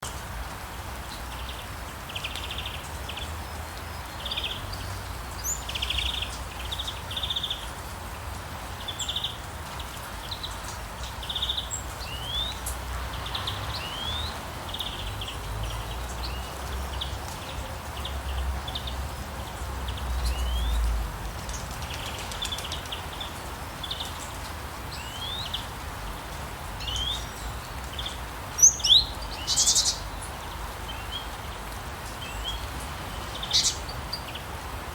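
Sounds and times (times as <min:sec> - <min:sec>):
rain falling: 0:00.0 - 0:34.9
songbirds chirping and trilling: 0:00.1 - 0:34.9.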